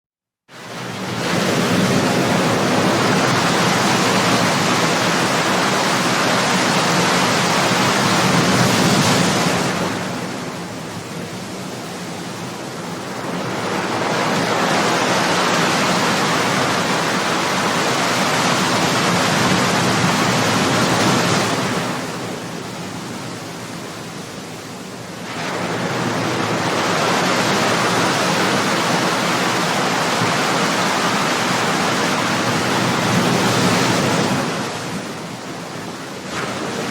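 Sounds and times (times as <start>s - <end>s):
ocean waves breaking: 0.5s - 36.9s.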